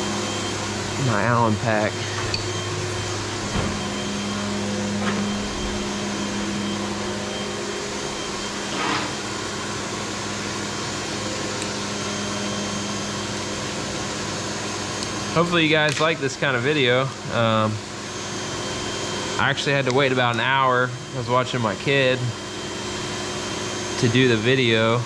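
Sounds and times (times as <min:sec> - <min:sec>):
machine humming and whirring: 0:00.0 - 0:25.0.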